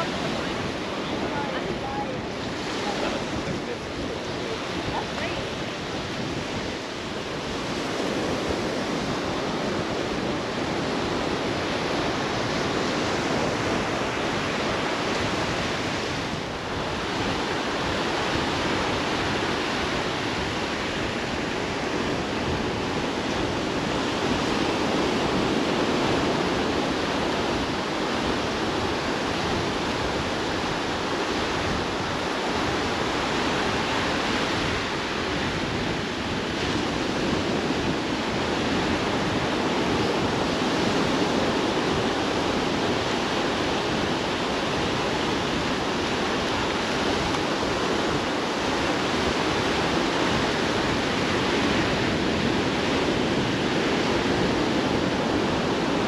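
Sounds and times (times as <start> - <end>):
surf breaking on sandy beach: 0.0 - 56.0.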